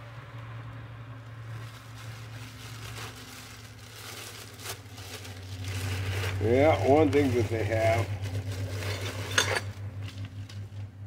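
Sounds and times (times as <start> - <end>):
steady low hum: 0.0 - 11.0
plastic bag crinkling: 1.3 - 10.4.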